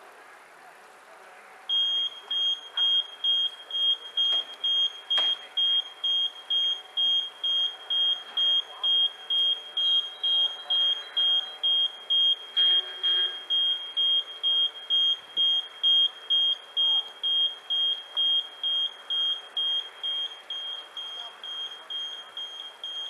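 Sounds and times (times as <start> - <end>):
electronic warning beeps: 1.7 - 23.0.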